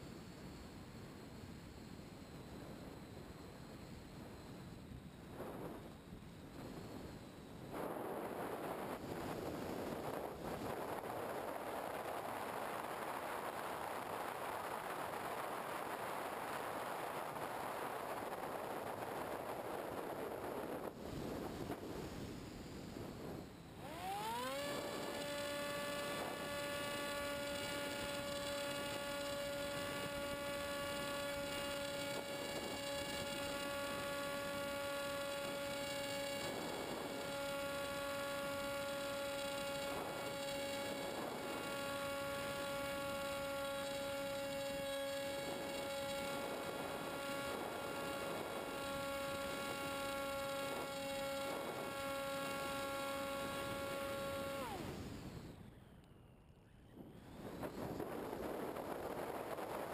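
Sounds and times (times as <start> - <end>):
wind gusts on microphone: 0.5 - 56.0, 56.9 - 59.9
electric motor whining: 6.6 - 56.2, 56.9 - 59.9.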